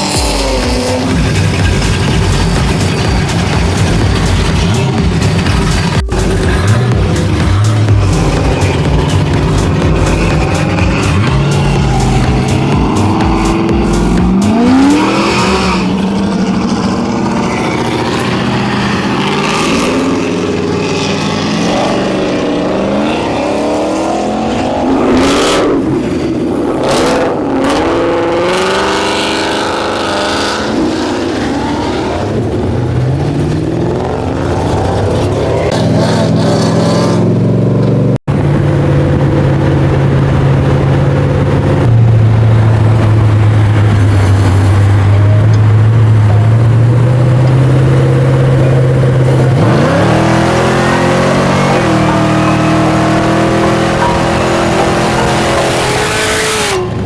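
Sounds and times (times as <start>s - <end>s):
car engines accelerating: 0.0s - 57.0s
engine steady drone: 0.0s - 57.0s.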